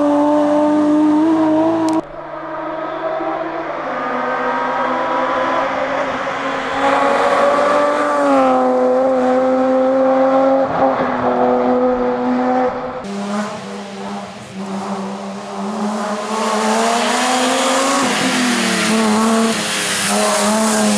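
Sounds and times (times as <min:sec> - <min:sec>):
rally car engine at high revs: 0:00.0 - 0:20.9.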